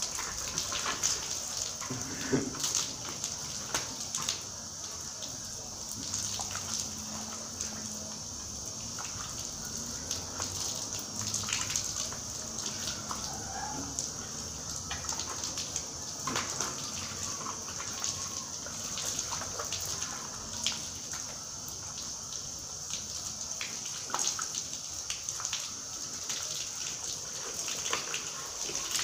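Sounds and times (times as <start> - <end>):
water running from garden hose: 0.0 - 29.0
water splashing on ground: 0.0 - 29.0.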